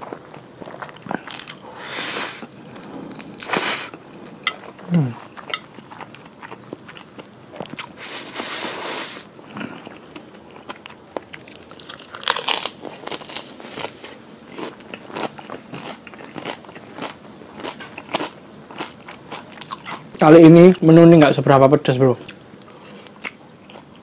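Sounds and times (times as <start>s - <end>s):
chewing and crunching food: 0.0s - 8.8s, 9.4s - 20.7s, 22.0s - 24.0s.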